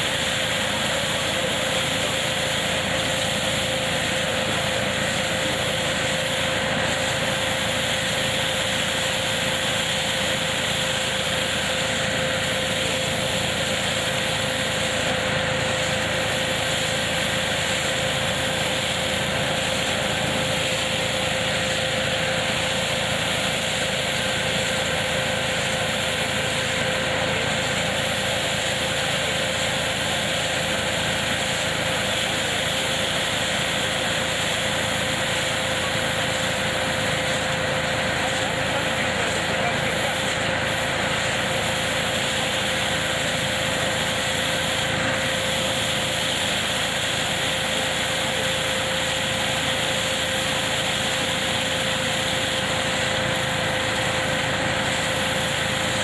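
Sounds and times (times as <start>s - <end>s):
hazelnut collecting machine running: 0.0s - 56.0s
steady high mechanical whine: 0.0s - 56.0s.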